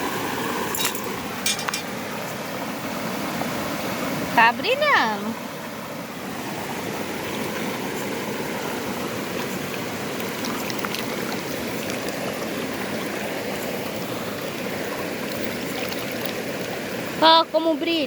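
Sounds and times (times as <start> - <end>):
waterfall and stream rushing: 0.0 - 18.0.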